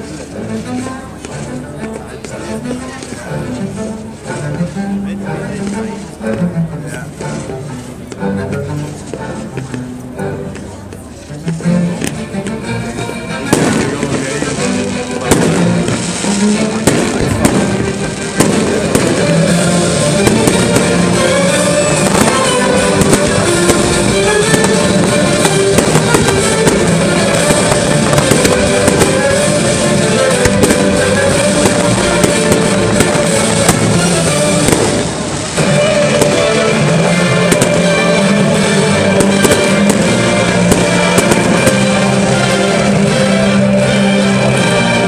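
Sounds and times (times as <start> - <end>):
fireworks bursting and crackling: 0.0 - 8.2, 11.9 - 45.0
music playing: 0.0 - 45.0.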